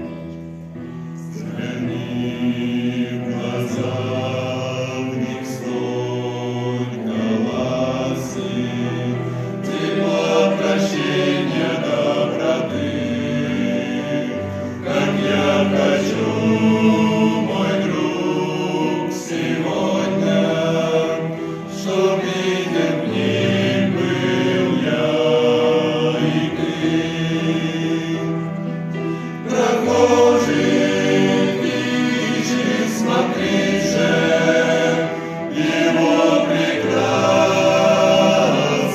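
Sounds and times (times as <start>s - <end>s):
men singing a hymn in harmony: 0.0s - 38.9s.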